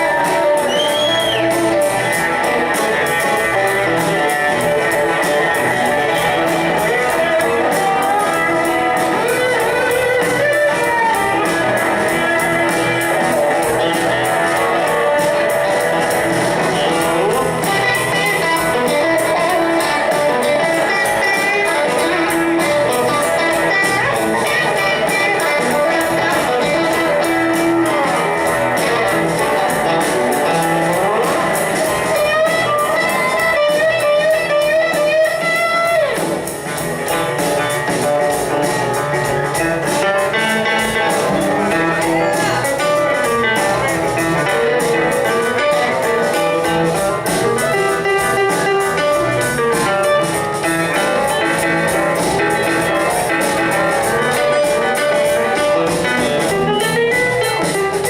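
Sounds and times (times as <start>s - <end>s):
electric guitar: 0.0s - 58.0s
live blues band playing: 0.0s - 58.0s.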